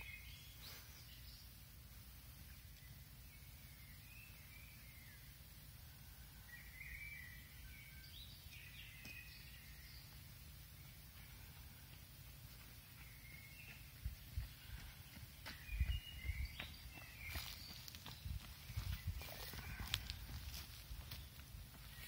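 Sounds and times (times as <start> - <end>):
faint birdsong: 0.0 - 22.0.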